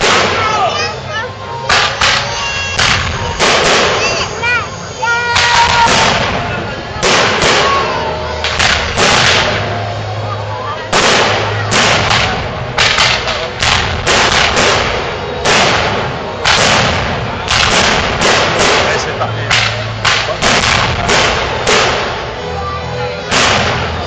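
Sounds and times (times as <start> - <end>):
fireworks bursting with echo: 0.0 - 24.0.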